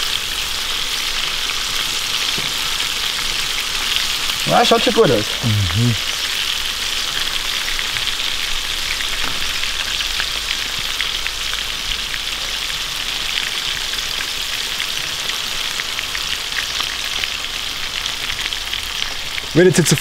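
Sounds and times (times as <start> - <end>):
fish deep-frying in oil: 0.0 - 5.3, 6.4 - 20.0.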